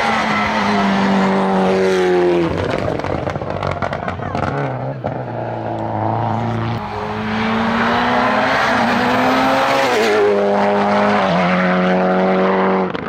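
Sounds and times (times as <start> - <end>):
race car engine at full throttle: 0.0 - 13.0.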